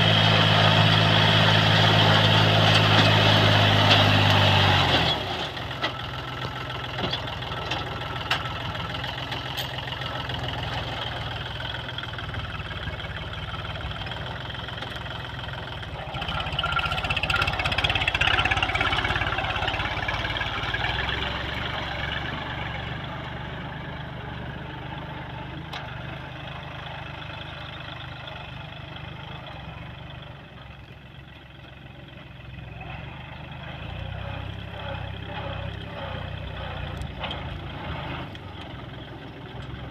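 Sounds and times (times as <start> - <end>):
rotary tiller working soil: 0.0 - 30.9, 31.9 - 39.9
tractor engine under load: 0.0 - 39.9.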